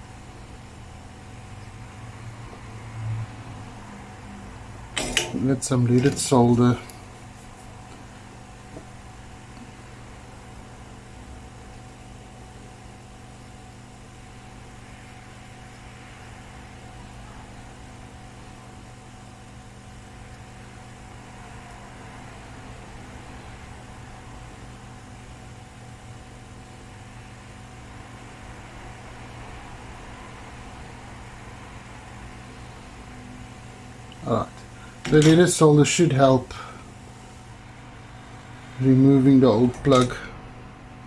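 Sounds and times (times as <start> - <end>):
mechanical hum with whine: 0.0 - 41.0.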